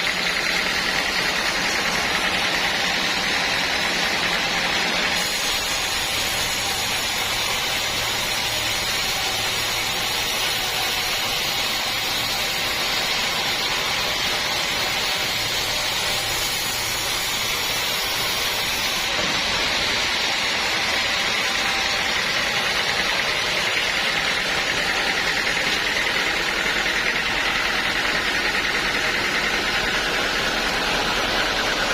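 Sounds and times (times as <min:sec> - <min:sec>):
sawmill machine running: 0:00.0 - 0:31.9.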